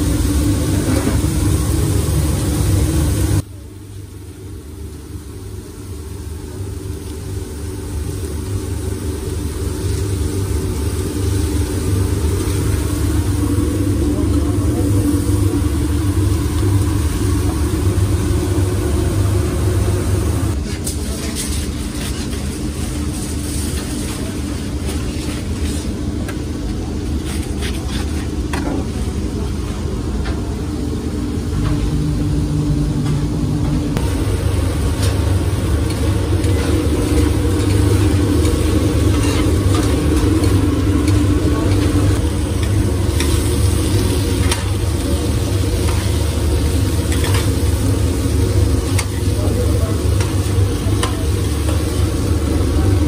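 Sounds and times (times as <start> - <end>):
food sizzling on a griddle: 0.0 - 25.9, 34.0 - 53.0.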